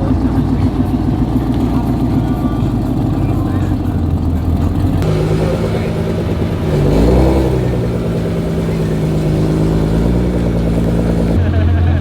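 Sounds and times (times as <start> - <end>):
car engine running and revving: 0.0 - 11.4.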